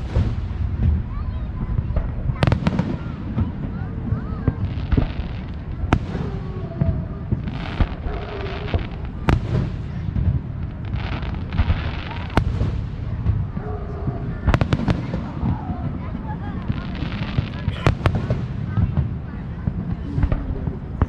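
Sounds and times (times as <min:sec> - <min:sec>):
sharp firework bangs: 0:00.0 - 0:13.6, 0:14.3 - 0:20.4
fireworks booming: 0:00.0 - 0:21.0
fireworks crackling: 0:00.0 - 0:21.0.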